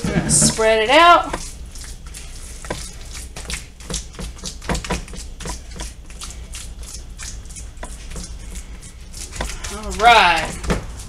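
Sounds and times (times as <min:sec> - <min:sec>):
hand patting wet mixture: 0:00.0 - 0:11.0.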